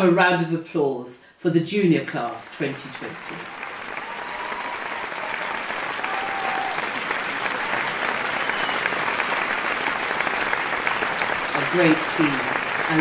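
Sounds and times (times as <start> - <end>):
many hands clapping: 2.4 - 13.0.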